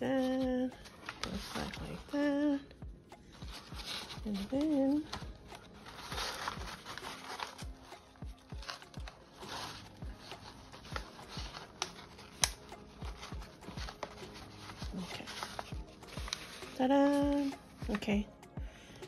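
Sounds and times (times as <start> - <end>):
paper crinkling and rustling: 0.0 - 2.3, 3.4 - 18.1
background music with beat: 2.0 - 19.0.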